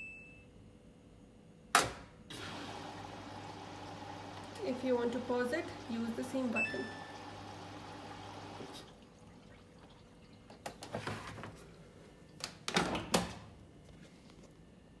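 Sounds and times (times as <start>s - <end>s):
washing machine hum: 2.3s - 15.0s.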